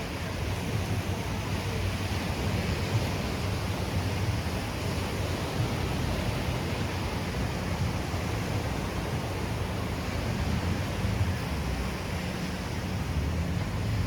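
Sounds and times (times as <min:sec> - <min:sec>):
surf on the shore: 0:00.0 - 0:14.0
wind: 0:00.0 - 0:14.0.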